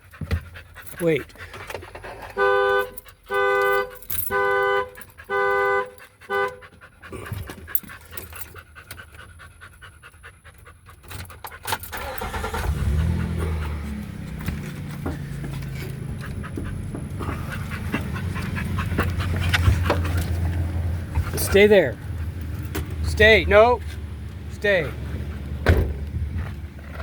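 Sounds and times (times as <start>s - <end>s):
dog panting: 0.0s - 3.4s, 4.9s - 25.6s
vehicle engine rumble: 0.0s - 27.0s.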